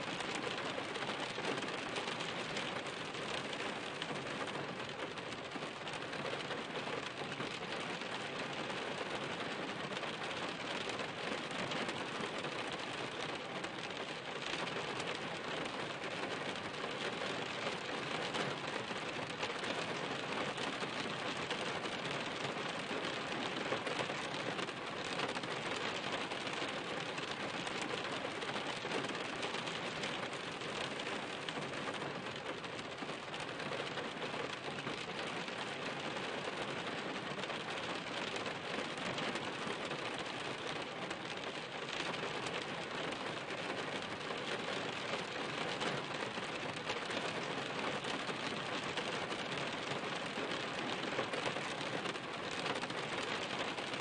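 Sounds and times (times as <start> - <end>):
raindrops ticking on a surface: 0.0 - 54.0.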